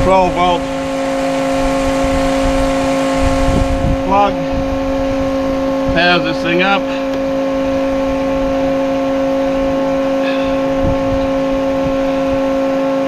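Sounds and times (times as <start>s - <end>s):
electric pump humming: 0.0s - 13.0s.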